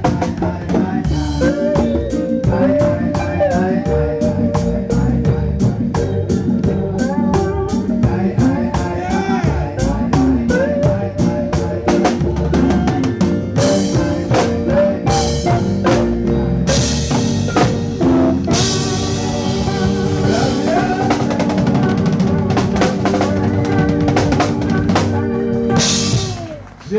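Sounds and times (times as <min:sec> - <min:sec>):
live reggae band playing: 0:00.0 - 0:26.9
male lead vocal: 0:00.0 - 0:26.9.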